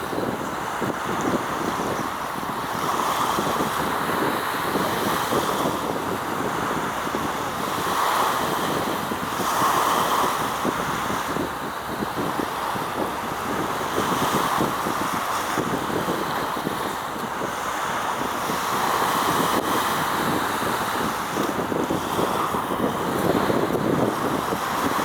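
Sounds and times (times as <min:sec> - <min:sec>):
rushing water: 0:00.0 - 0:25.0
wind buffeting the microphone: 0:00.0 - 0:25.0.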